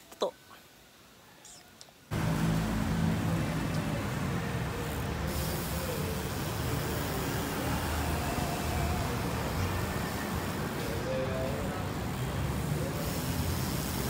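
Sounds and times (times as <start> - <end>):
street traffic rumble: 2.1 - 14.0.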